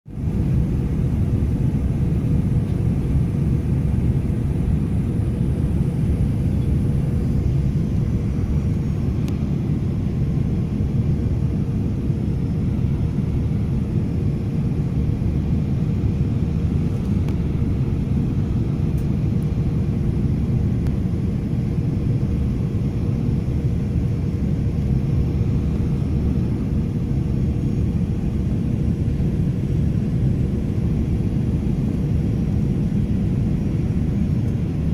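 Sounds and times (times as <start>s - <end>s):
engine and airflow rumble: 0.0s - 34.9s
faint steady hum: 0.1s - 34.9s.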